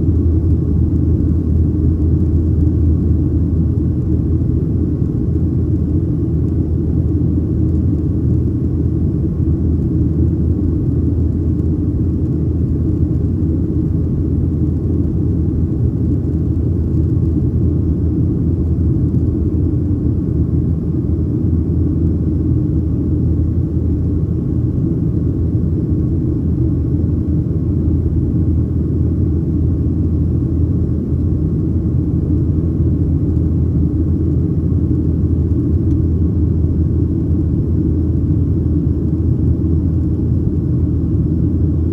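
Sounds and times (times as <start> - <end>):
airplane cabin rumble: 0.0 - 41.9.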